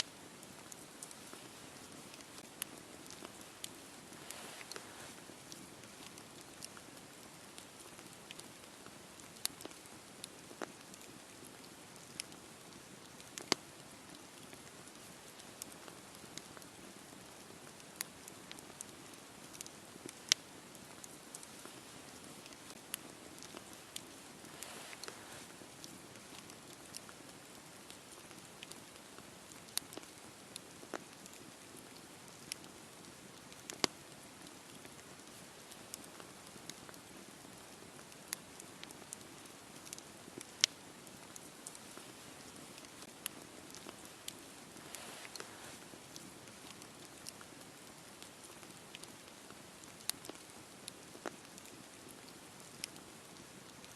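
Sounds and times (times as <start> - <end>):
burning wood crackling and popping: 0.0 - 53.9
campfire hissing: 0.1 - 53.5.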